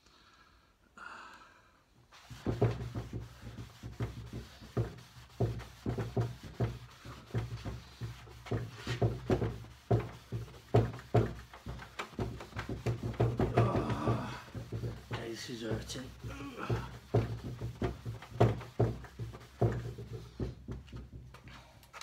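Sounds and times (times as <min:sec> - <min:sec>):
cloth rubbing on wooden table: 0:02.1 - 0:20.9.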